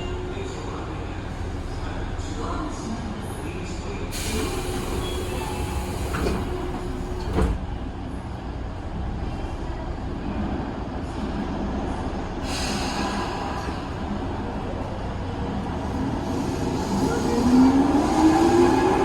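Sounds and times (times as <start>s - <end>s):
jet-like train noise: 0.0s - 19.0s
train running in tunnel: 0.0s - 19.0s.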